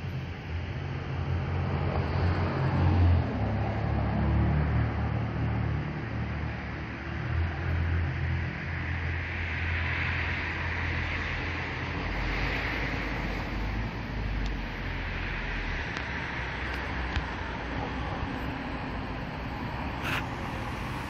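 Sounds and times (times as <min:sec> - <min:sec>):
passing cars rumble: 0:00.0 - 0:21.0.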